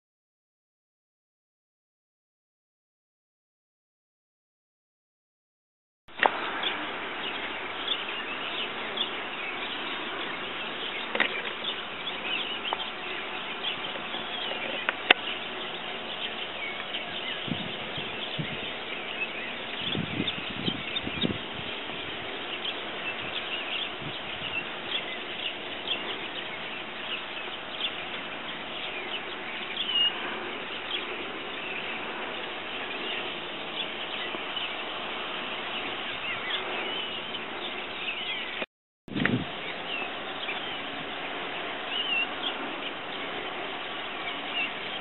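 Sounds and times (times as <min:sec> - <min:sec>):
small birds chirping: 0:06.1 - 0:45.0
steady hiss: 0:06.1 - 0:45.0.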